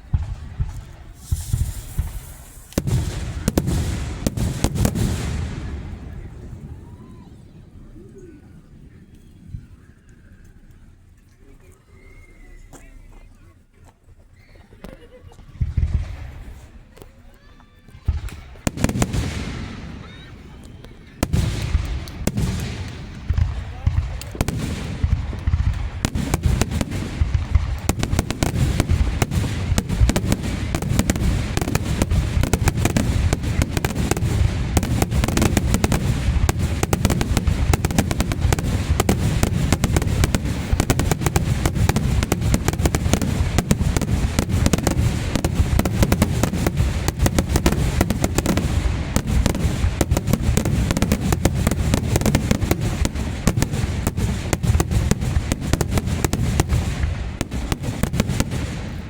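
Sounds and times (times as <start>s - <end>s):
fireworks bangs and booms: 0.0s - 9.9s, 14.8s - 59.0s.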